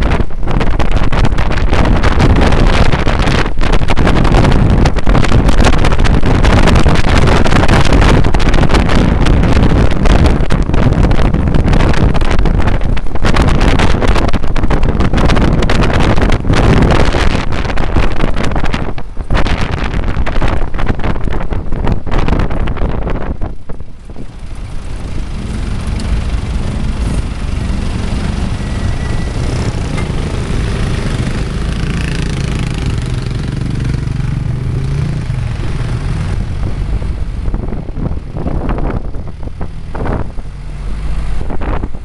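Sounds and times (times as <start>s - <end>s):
road noise: 0.0s - 42.0s
vehicle engine: 0.0s - 42.0s
wind buffeting the microphone: 0.0s - 42.0s.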